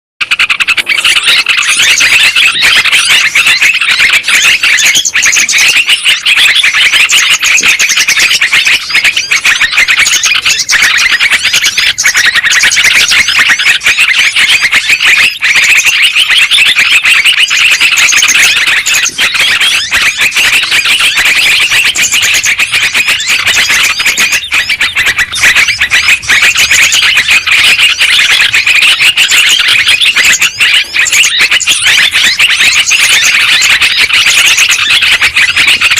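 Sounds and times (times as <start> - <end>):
bird chattering song: 0.2 - 35.9.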